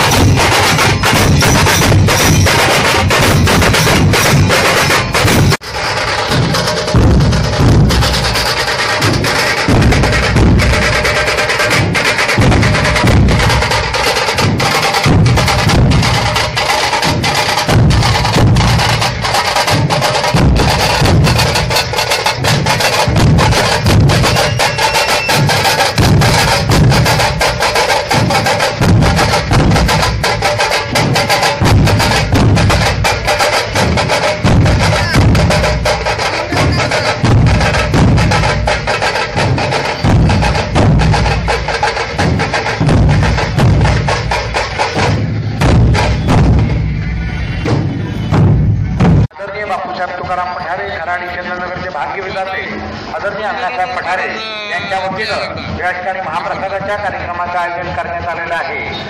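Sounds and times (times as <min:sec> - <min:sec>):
drum troupe beating rhythm: 0:00.0 - 0:59.0.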